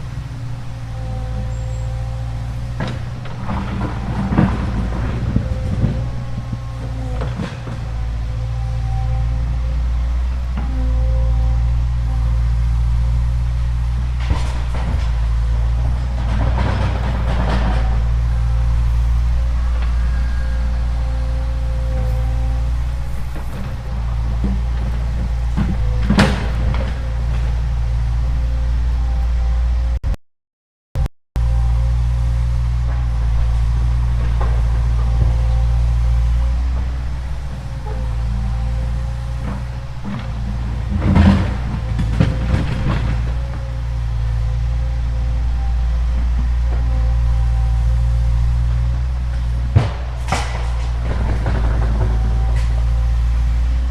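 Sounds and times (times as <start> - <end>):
diesel engine running under load: 0.0 - 30.2, 31.0 - 53.9.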